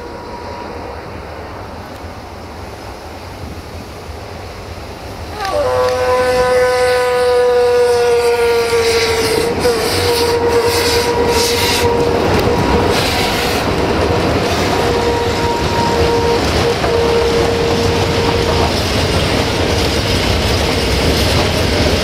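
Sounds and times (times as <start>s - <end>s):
train rumbling and clattering: 0.0s - 22.0s.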